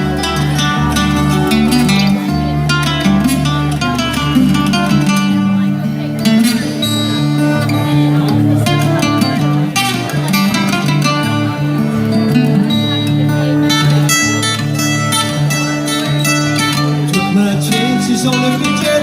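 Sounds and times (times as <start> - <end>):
acoustic guitar: 0.0 - 19.0
plucked string instrument: 0.0 - 19.0.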